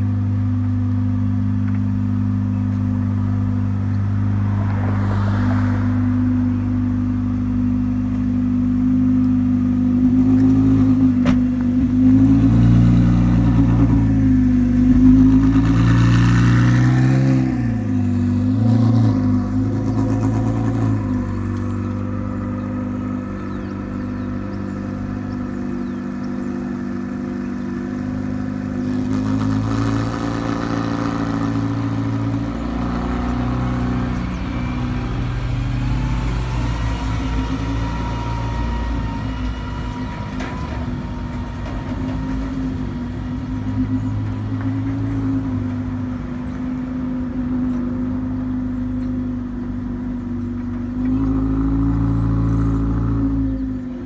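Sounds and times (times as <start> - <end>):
race car engine revving: 1.7 - 54.0.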